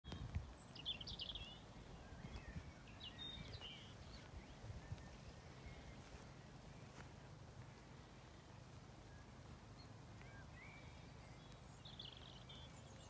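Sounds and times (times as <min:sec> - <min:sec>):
songbird chirps and trills: 0:00.1 - 0:13.0.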